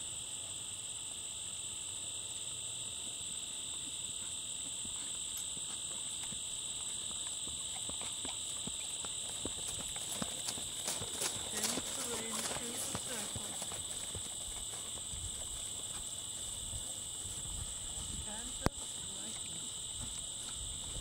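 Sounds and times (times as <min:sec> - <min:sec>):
insects chirring: 0:00.0 - 0:21.0
horse hoofbeats on grass: 0:03.8 - 0:21.0.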